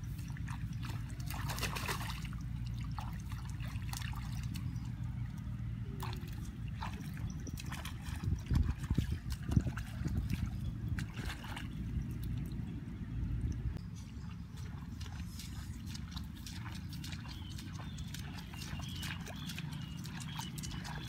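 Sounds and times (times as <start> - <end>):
muddy water splashing: 0.0 - 21.0
steady low rumble: 0.0 - 21.0.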